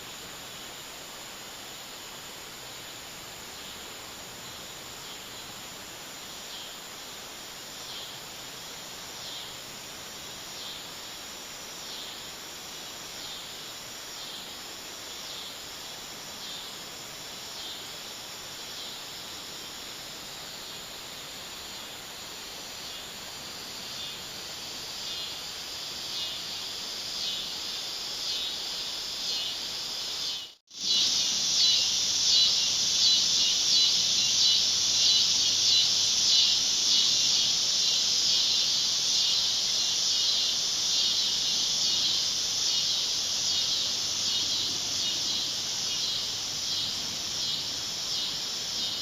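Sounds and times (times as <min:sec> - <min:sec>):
insects buzzing: 0:00.0 - 0:49.0.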